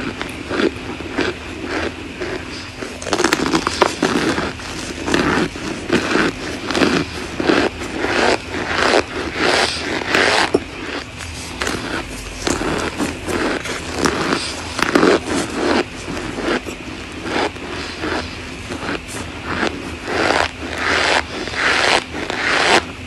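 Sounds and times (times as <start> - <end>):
crunchy biting and chewing: 0.0 - 23.0.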